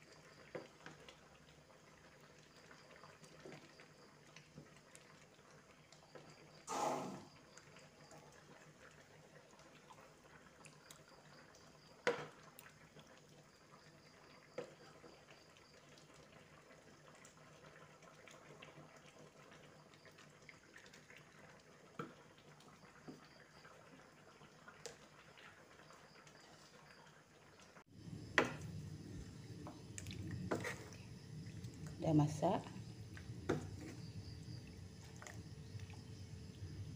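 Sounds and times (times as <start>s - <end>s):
curry bubbling in pot: 0.0s - 36.9s.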